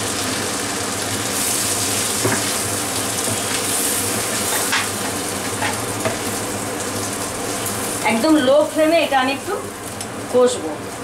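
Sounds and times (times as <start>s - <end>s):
paste sizzling in a frying pan: 0.0s - 11.0s.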